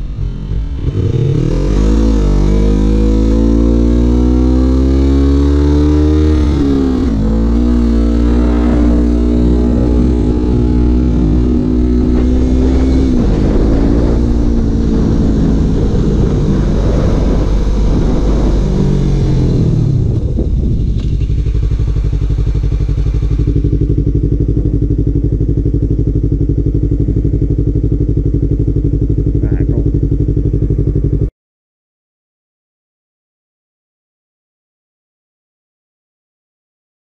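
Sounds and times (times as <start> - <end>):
motorcycle engine: 0.0 - 31.3.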